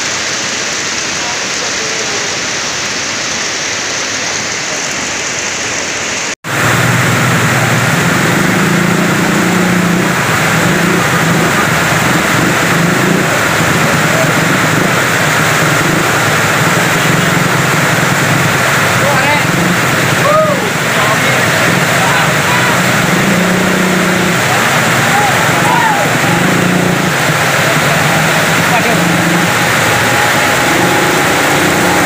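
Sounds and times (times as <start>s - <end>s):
falling rain: 0.0s - 32.0s
rushing mud flood: 0.0s - 32.0s.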